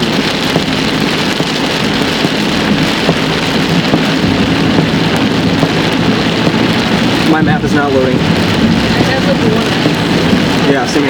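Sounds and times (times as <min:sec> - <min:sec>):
heavy rain pelting a vehicle: 0:00.0 - 0:11.0.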